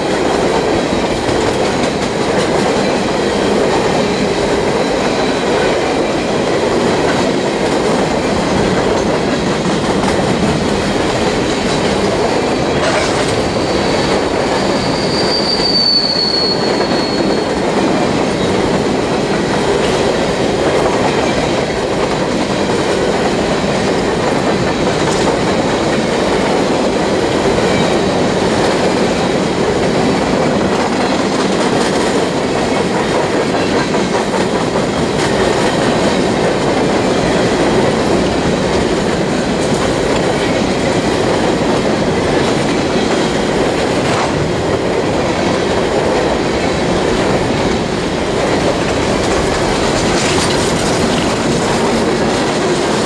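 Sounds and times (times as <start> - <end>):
clickety-clack over rail joints: 0.0 - 53.0
train wheels rumbling on rail: 0.0 - 53.0.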